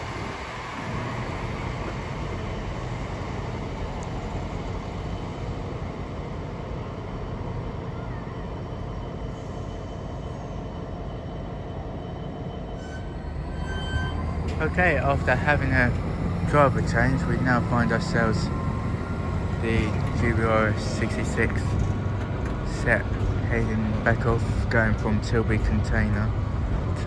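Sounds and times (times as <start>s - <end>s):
diesel train engine running: 0.0s - 27.0s.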